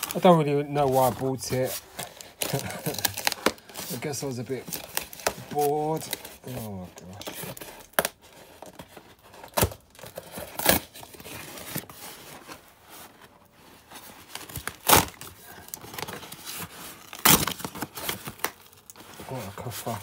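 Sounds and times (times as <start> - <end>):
tape and cardboard ripping: 0.9 - 12.6, 14.0 - 20.0.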